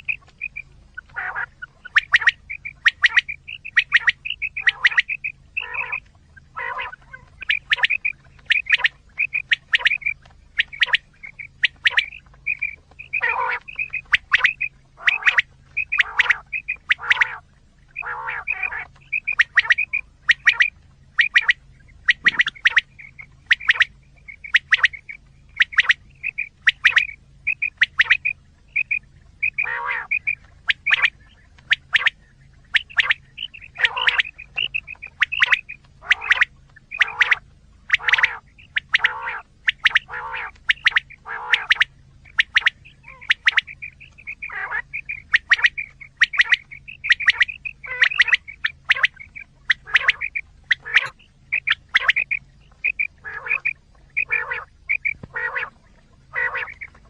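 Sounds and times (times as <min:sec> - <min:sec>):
quail calling: 0:00.0 - 0:57.0.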